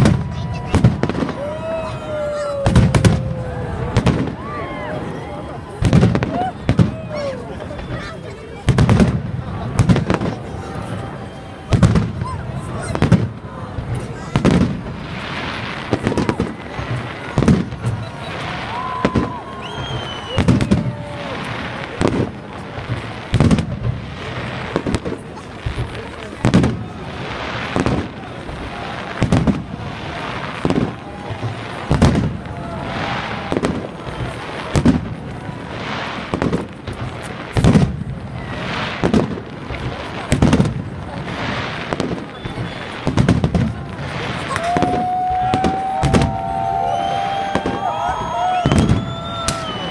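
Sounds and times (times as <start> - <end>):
firework shells booming: 0.0 - 1.6, 2.6 - 4.6, 11.6 - 49.9
fireworks crackling: 0.0 - 49.9.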